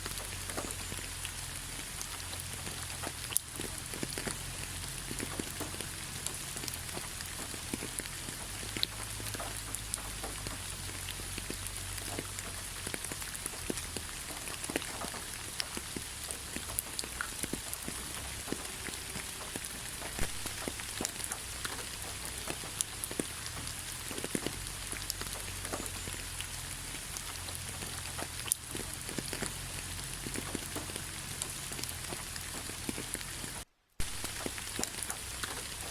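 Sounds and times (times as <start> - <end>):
rain falling: 0.0 - 35.9
raindrop ticks: 0.0 - 35.9.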